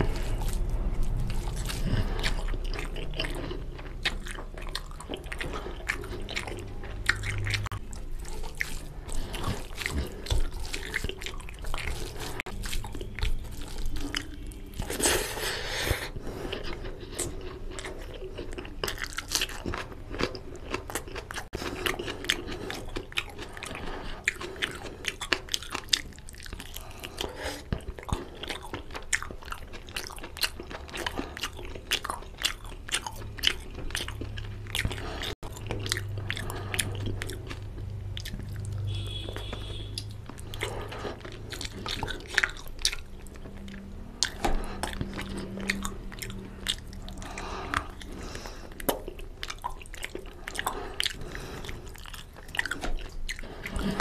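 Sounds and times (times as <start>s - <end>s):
wet chewing and lip smacks: 0.0s - 15.4s, 16.0s - 54.0s.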